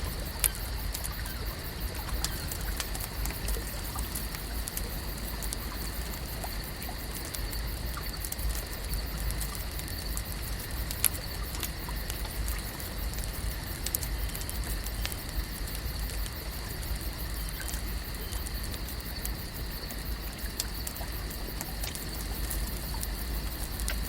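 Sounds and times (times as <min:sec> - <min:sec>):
small crackles and clicks: 0:00.0 - 0:24.0.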